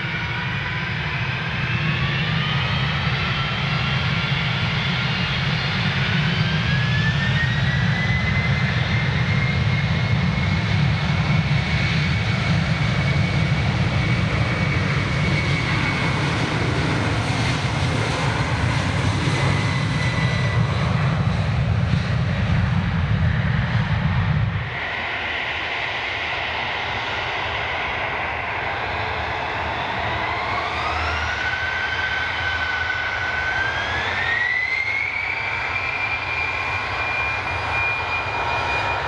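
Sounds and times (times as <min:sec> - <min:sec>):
jet engine deep rumble: 0:00.0 - 0:39.0
jet engine whine: 0:00.0 - 0:39.0.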